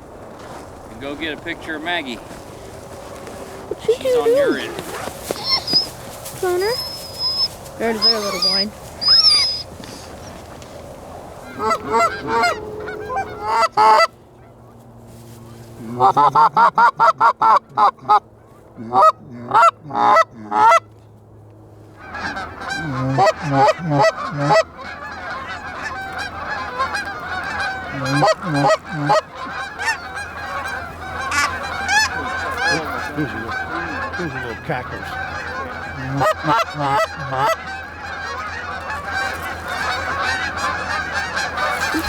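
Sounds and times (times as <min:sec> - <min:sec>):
geese honking and cackling: 0:00.4 - 0:20.9, 0:21.8 - 0:42.0.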